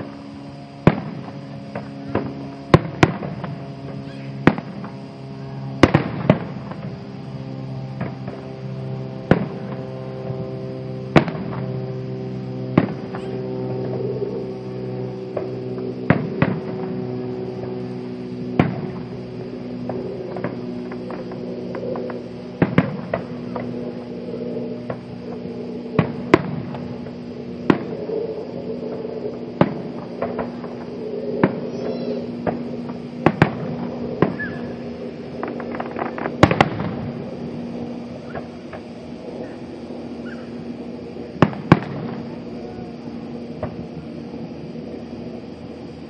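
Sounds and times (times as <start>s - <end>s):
fireworks banging: 0.0s - 45.6s
steady low hum: 0.0s - 46.0s.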